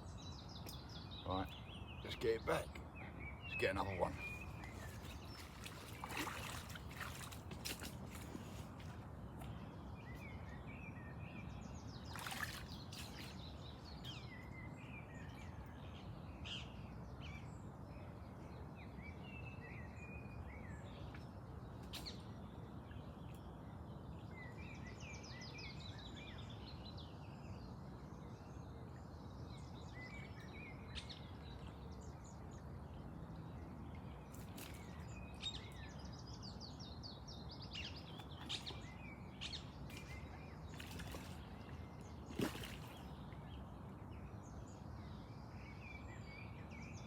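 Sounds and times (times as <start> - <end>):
outdoor background hiss: 0.0 - 47.0
small birds chirping: 0.0 - 47.0.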